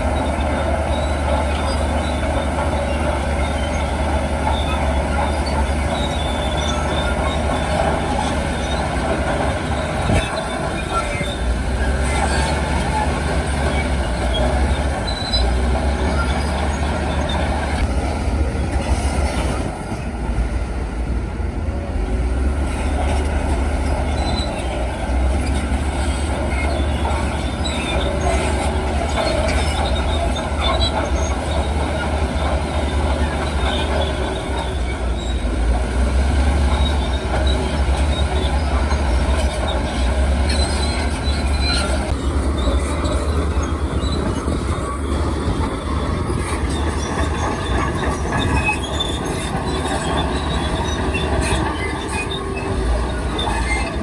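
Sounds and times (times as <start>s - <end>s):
high metallic squeaks and clanks: 0.0s - 17.9s, 22.7s - 54.0s
diesel engines droning: 0.0s - 54.0s.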